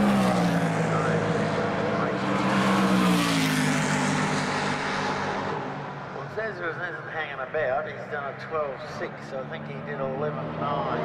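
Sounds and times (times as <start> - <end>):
racing car engines passing: 0.0 - 11.0.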